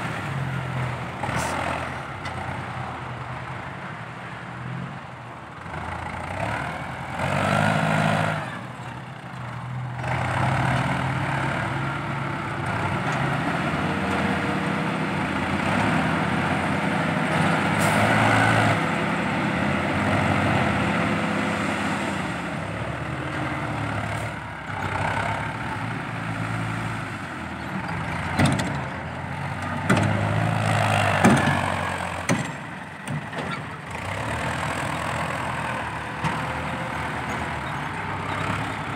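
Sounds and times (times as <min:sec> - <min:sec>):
diesel truck engine revving: 0:05.6 - 0:38.9.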